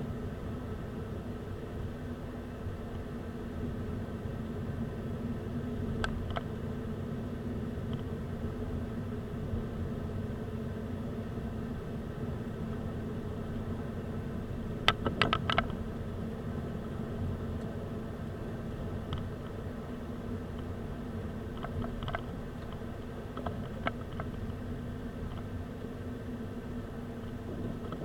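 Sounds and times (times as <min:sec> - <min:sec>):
car engine and road hum: 0:00.0 - 0:28.0.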